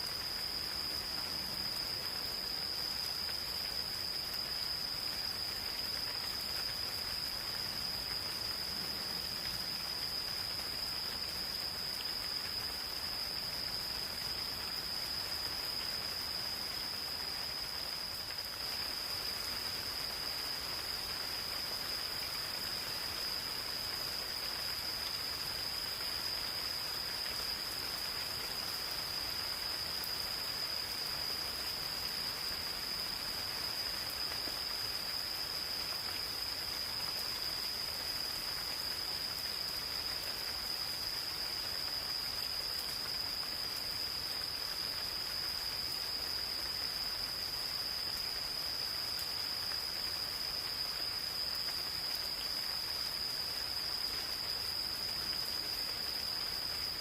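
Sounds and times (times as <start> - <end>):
gentle rain falling: 0.0 - 57.0
insects trilling: 0.0 - 57.0.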